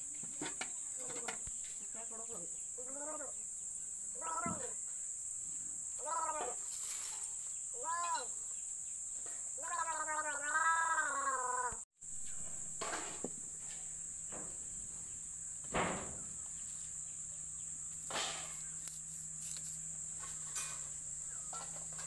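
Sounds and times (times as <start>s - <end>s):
high-pitched insect drone: 0.8s - 14.1s, 15.0s - 22.0s.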